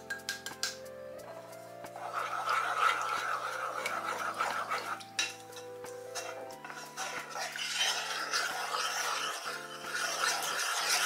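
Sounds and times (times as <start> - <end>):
soft background music: 0.0 - 11.0
wooden spoon scraping saucepan: 1.8 - 11.0.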